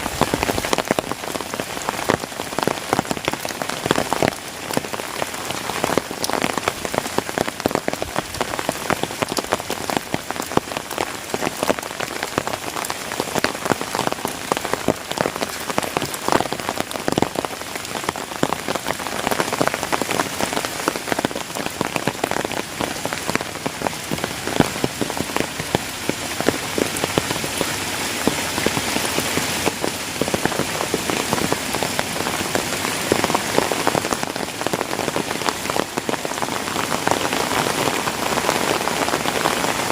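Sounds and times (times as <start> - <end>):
heavy rain hissing: 0.0 - 39.9
raindrops tapping close by: 0.0 - 39.9.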